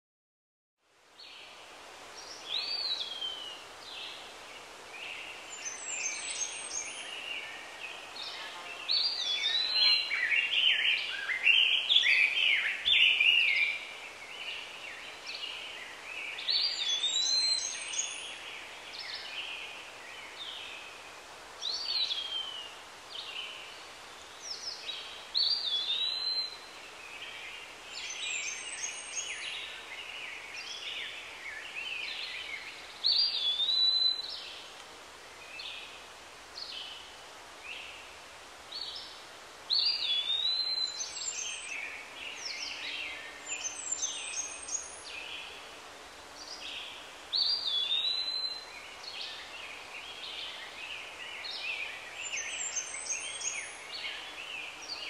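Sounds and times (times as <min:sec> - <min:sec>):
steady background hiss: 0:00.8 - 0:55.0
birds singing and calling: 0:02.2 - 0:34.7, 0:38.8 - 0:45.6, 0:46.4 - 0:55.0.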